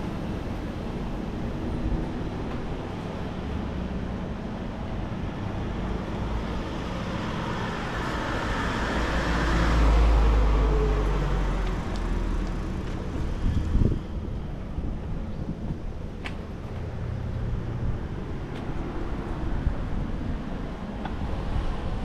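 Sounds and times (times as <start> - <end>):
steady traffic noise: 0.0 - 22.0.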